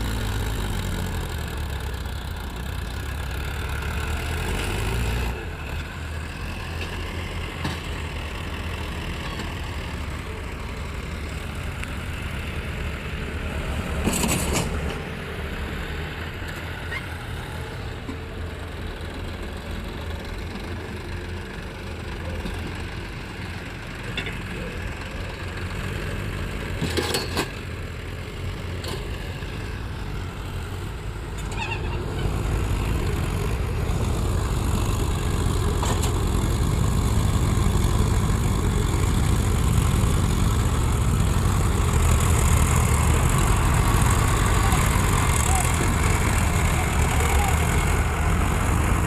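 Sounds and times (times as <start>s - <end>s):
heavy vehicle engine running: 0.0s - 49.0s.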